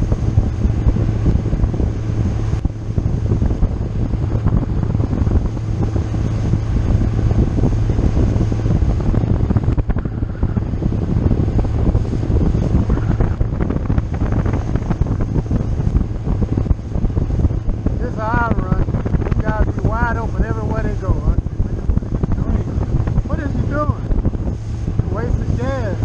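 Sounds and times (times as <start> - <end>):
motorboat engine humming: 0.0 - 26.0
rushing wind and water: 0.0 - 26.0
wind buffeting microphone: 0.0 - 26.0.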